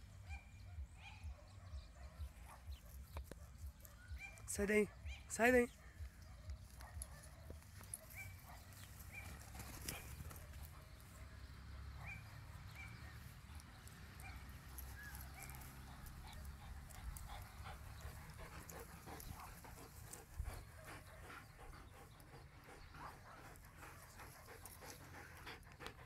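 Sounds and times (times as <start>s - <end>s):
dogs playing on grass: 0.0s - 26.0s
dog panting: 1.3s - 26.0s.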